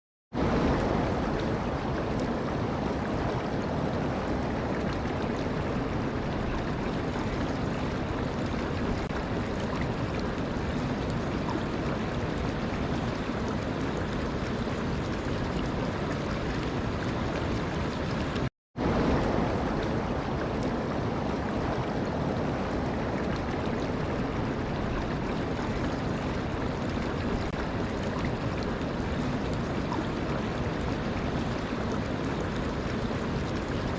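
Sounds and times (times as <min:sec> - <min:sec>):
running water rushing: 0:00.4 - 0:33.9.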